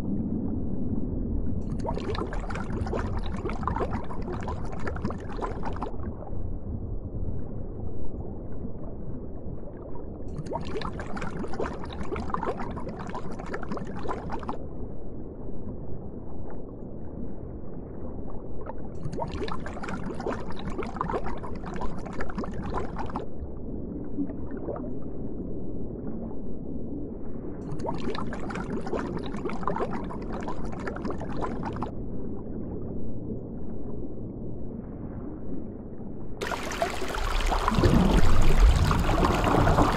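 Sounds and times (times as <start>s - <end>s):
bubbling and gurgling water: 0.0s - 39.9s
low rumble of moving water: 0.0s - 39.9s.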